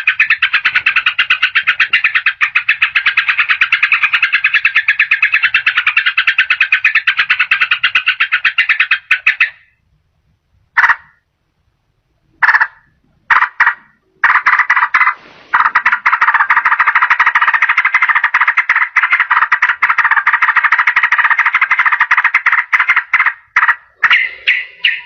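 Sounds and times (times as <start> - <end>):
bulbul chattering song: 0.0 - 9.8, 12.4 - 25.0.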